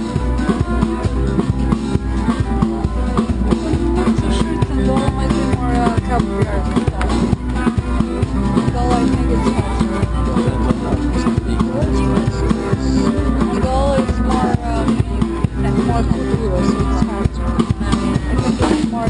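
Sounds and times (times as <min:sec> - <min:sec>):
steady drum beat: 0:00.0 - 0:19.0
street band playing music: 0:00.0 - 0:19.0.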